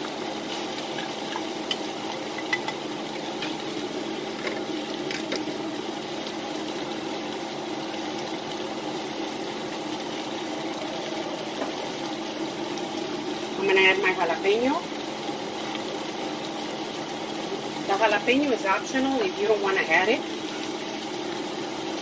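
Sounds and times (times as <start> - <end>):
beef sizzling in a skillet: 0.0 - 22.0.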